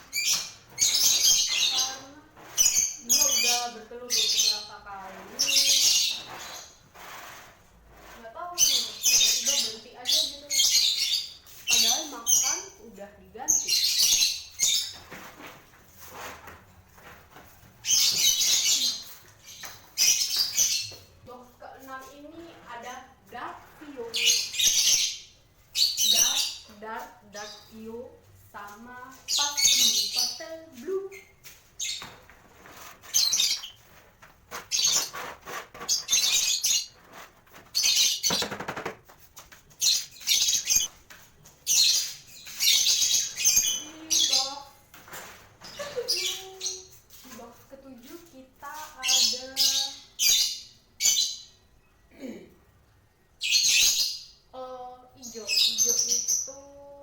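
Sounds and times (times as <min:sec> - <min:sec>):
lovebirds chattering: 0:00.0 - 0:07.1, 0:08.0 - 0:15.5, 0:17.8 - 0:38.8, 0:39.8 - 0:41.0, 0:41.6 - 0:51.6, 0:53.4 - 0:57.0.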